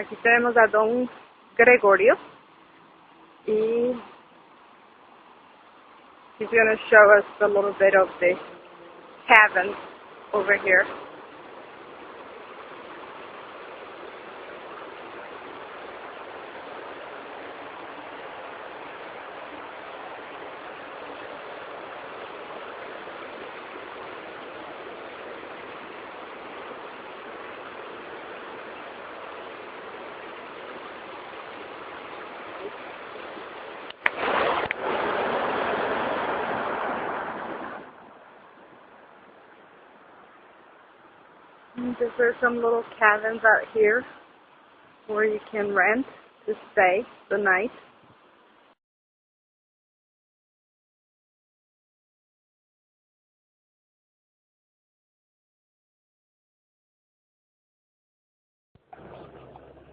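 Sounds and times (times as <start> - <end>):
flowing water rushing: 0.0 - 48.8, 58.8 - 59.9.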